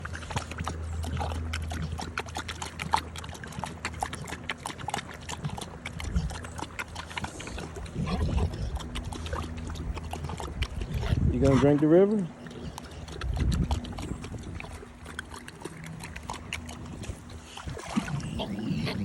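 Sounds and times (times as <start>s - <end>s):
dog lapping water: 0.0s - 19.0s.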